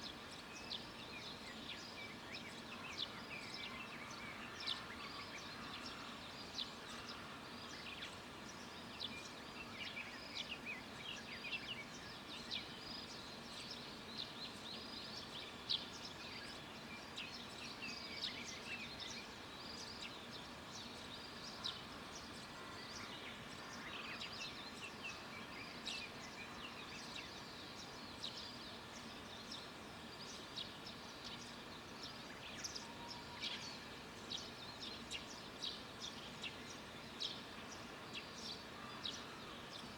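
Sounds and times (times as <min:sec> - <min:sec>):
faint outdoor background: 0:00.0 - 0:39.9.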